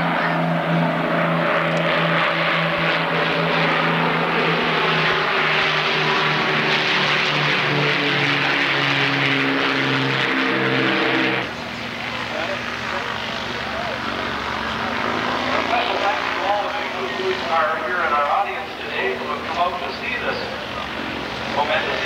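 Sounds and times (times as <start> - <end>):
propeller aircraft engines droning: 0.0 - 22.0.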